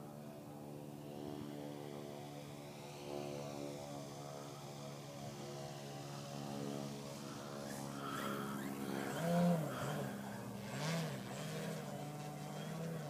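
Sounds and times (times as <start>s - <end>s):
model plane motor droning: 0.0s - 13.0s.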